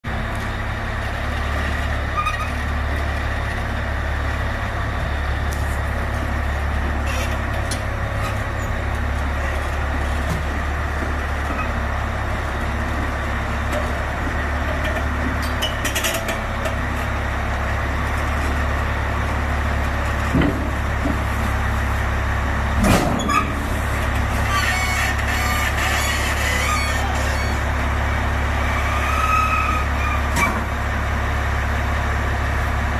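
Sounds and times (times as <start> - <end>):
large diesel engine rumbling: 0.0 - 32.9.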